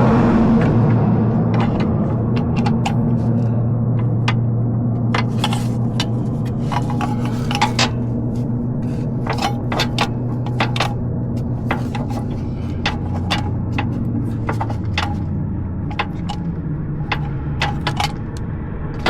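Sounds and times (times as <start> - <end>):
low hum: 0.0 - 19.0
metal tools clinking and scraping: 1.5 - 18.4.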